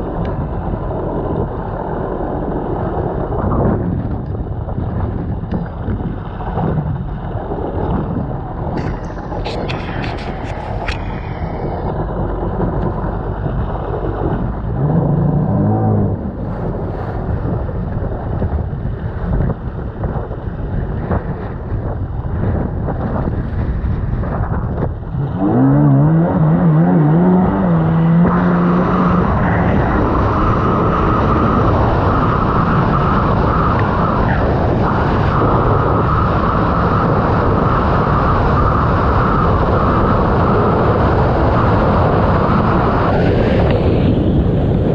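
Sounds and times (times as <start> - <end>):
personal watercraft engine: 0.0 - 44.9
wind on microphone: 0.0 - 44.9.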